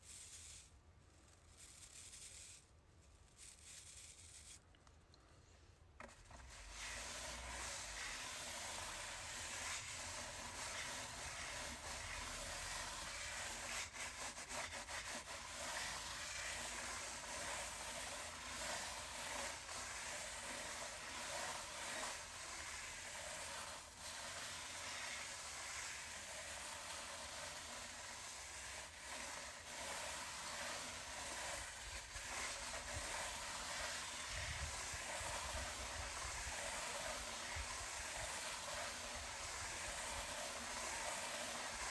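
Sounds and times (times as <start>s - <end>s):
brush scrubbing a chair: 1.4s - 2.6s, 6.1s - 41.9s.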